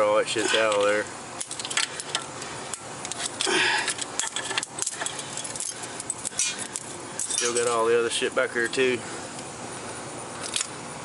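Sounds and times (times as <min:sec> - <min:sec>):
metal tools clinking: 0:00.3 - 0:08.9, 0:10.4 - 0:10.7.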